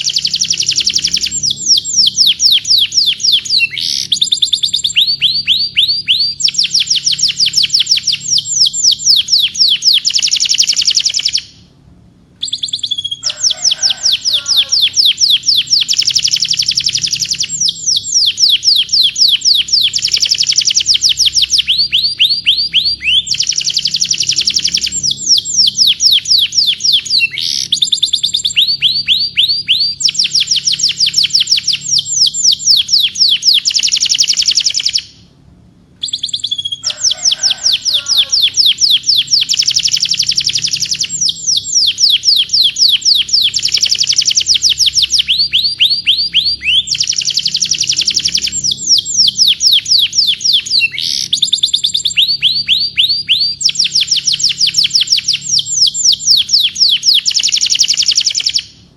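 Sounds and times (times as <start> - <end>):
canary singing trills: 0.0 - 11.7, 12.4 - 35.3, 36.0 - 58.9.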